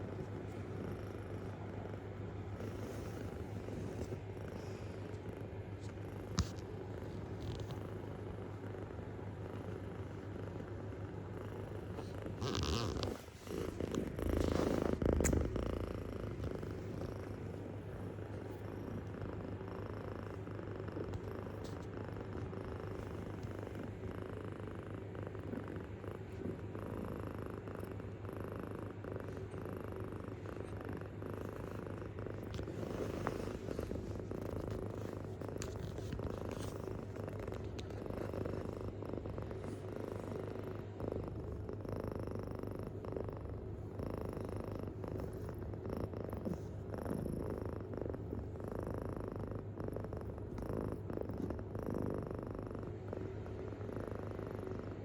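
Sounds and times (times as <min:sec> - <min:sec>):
kitten purring: 0:00.0 - 0:55.0.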